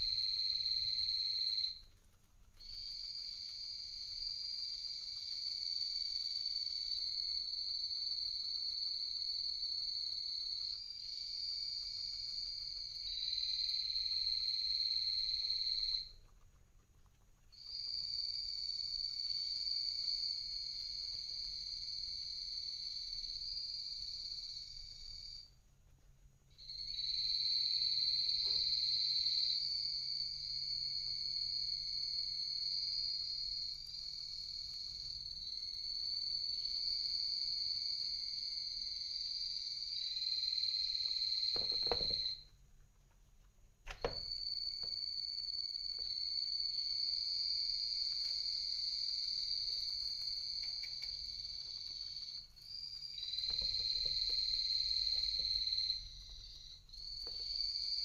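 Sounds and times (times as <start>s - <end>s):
guinea pigs chewing hay: 0.0s - 58.0s.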